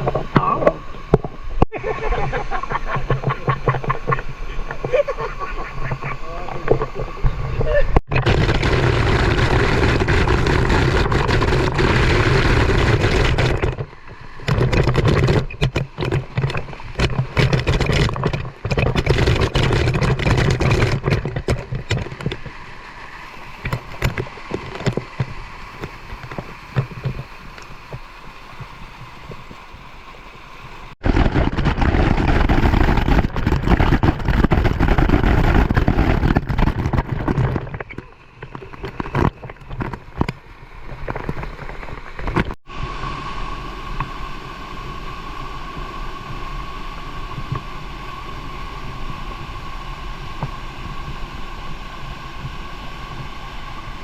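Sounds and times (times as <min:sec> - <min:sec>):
wind noise on microphone: 0:00.0 - 0:29.9, 0:30.9 - 0:54.0.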